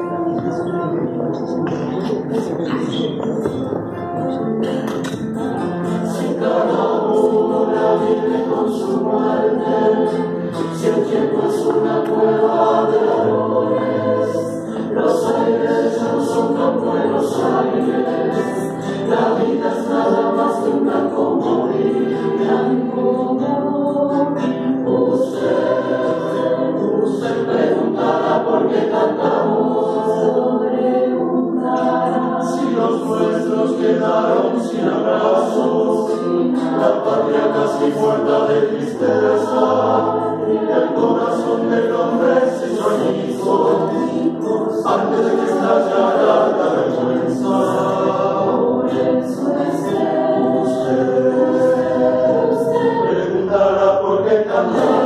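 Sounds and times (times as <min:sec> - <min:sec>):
acoustic guitar: 0:00.0 - 0:55.0
mixed choir singing: 0:00.0 - 0:55.0.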